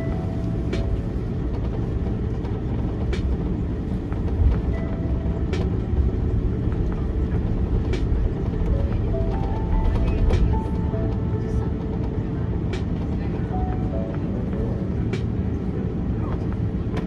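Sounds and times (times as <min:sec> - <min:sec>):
low rumble of idling engines: 0:00.0 - 0:17.0.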